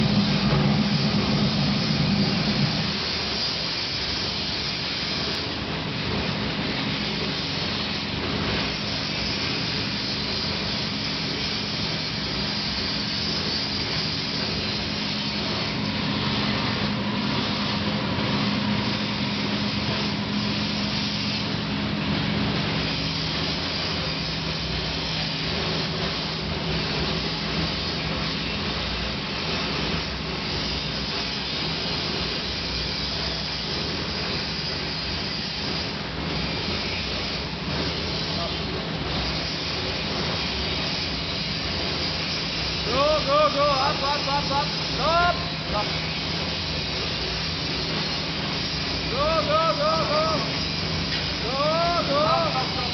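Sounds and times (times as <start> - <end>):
furnace rushing with low hum: 0.0 - 52.9.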